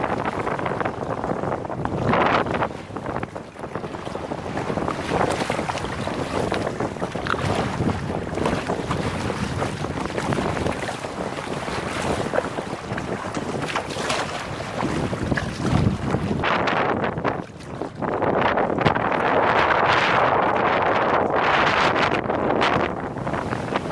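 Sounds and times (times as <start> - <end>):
wind buffeting microphone: 0.0 - 23.9
paddle strokes splashing in water: 0.1 - 20.0.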